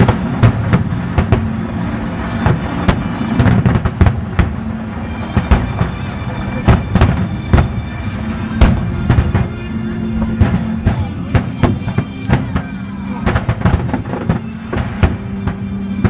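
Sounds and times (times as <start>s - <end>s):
background music: 0.0s - 16.0s
fireworks banging: 0.0s - 16.0s.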